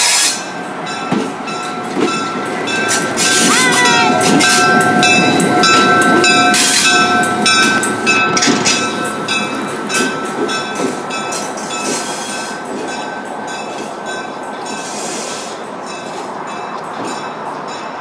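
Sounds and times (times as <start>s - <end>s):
train wheels clattering on track: 0.0s - 18.0s.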